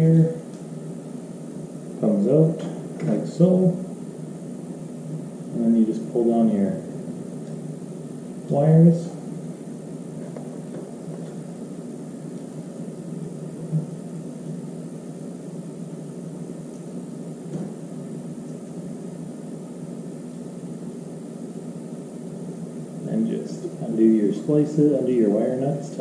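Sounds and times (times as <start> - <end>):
room hum and hiss: 0.0 - 26.0.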